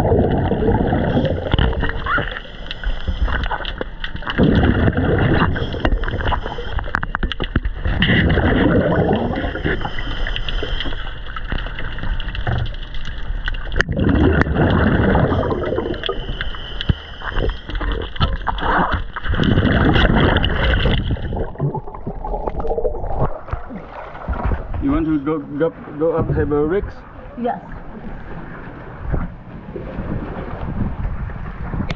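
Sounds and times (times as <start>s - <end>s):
water churning around a boat: 0.0s - 31.9s.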